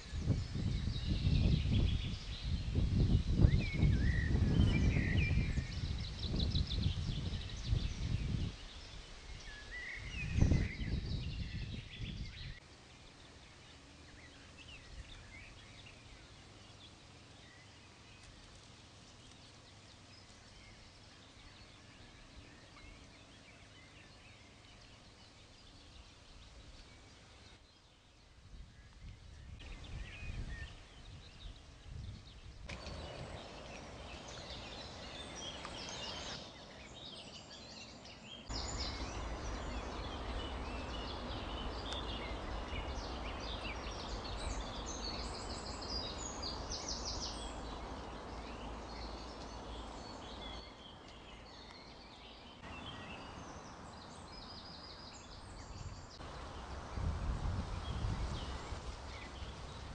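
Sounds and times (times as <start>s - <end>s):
wind rumbling on microphone: 0.0s - 16.8s, 17.4s - 59.9s
birds chirping and singing: 0.0s - 59.9s
rustling leaves: 0.0s - 59.9s.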